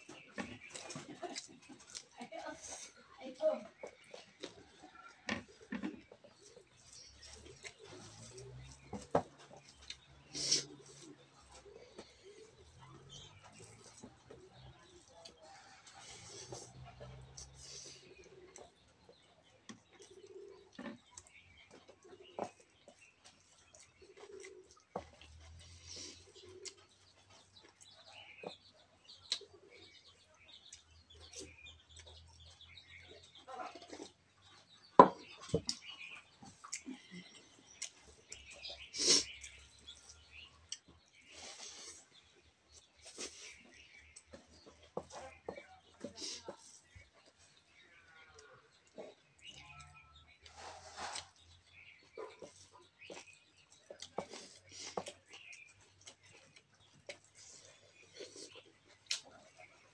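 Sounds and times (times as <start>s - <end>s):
chewing: 0.1s - 59.9s.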